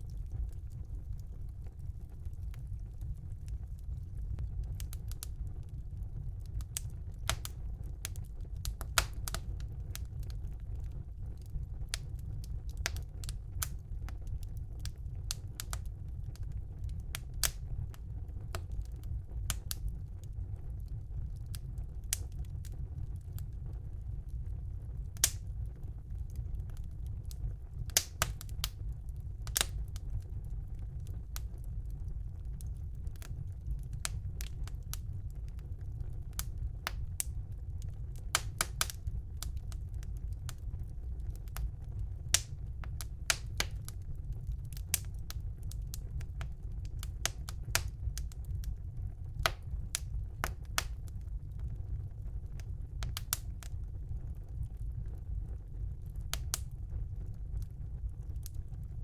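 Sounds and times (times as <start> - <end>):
crackles and pops of burning logs: 0.0 - 59.0
fire flames rumbling: 0.0 - 59.0.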